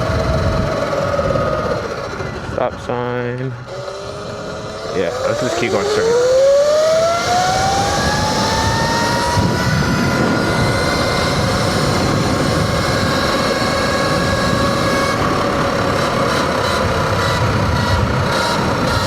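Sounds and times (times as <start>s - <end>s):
electric motor whining: 0.0s - 2.6s, 3.6s - 19.0s
wind and tyre noise: 0.0s - 19.0s.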